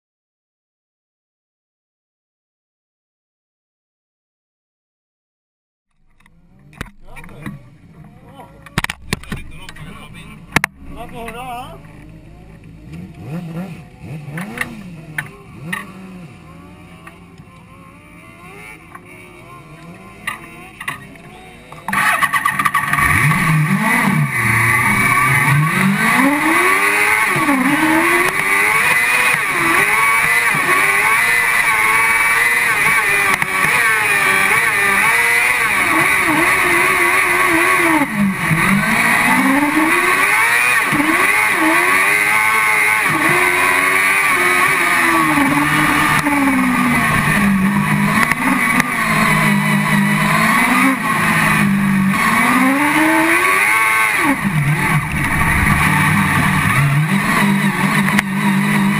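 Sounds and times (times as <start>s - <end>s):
buggy engine revving hard: 6.6s - 58.9s.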